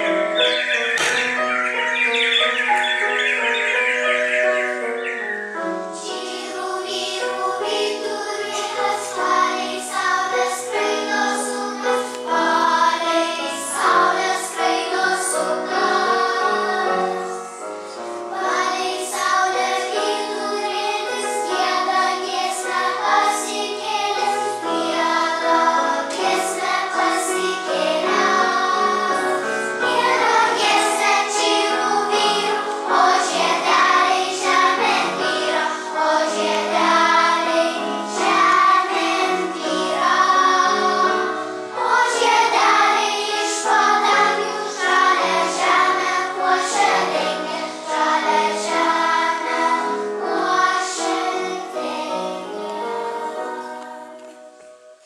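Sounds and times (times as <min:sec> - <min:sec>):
children's choir singing: 0:00.0 - 0:55.0
piano: 0:00.0 - 0:55.0.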